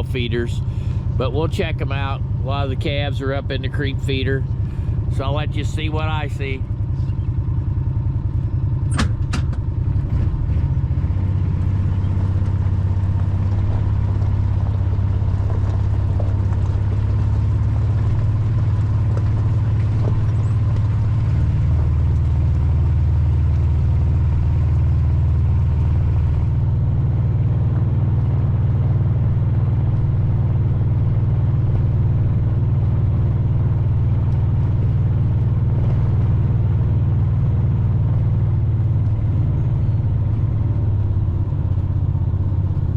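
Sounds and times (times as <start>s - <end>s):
vehicle engine droning: 0.0s - 42.9s.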